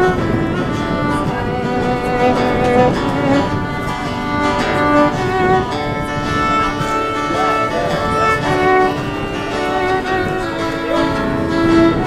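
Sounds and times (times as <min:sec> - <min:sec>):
acoustic guitar strummed: 0:00.0 - 0:12.0
fiddle bowing a melody: 0:00.0 - 0:12.0.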